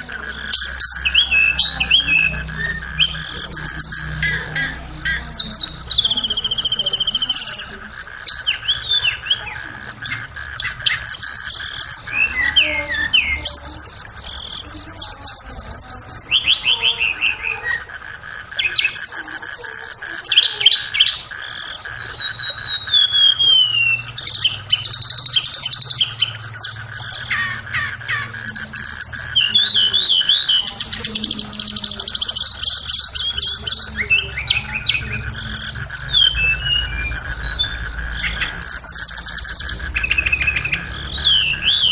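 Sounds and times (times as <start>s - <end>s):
songbirds trilling: 0.0s - 41.9s
steady high hum: 0.0s - 41.9s.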